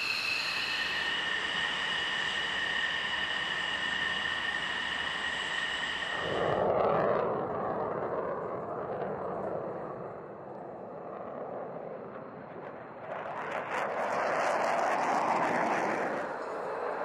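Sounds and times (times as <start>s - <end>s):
jet engine whine: 0.0s - 17.0s
jet taking off roar: 0.0s - 17.0s.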